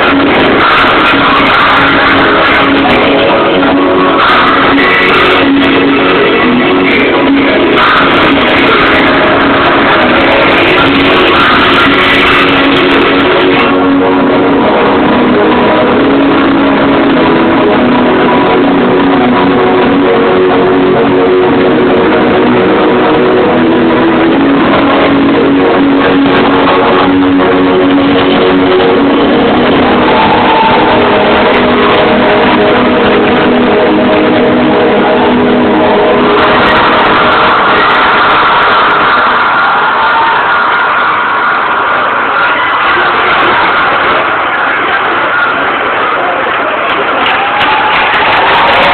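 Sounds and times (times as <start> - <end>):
recorded music with guitar: 0.0 - 44.7.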